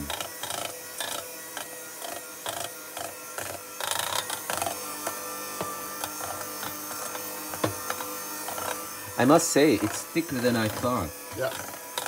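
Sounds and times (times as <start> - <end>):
beaters scraping metal bowl: 0.0 - 12.0
electric hand mixer running: 0.0 - 12.0.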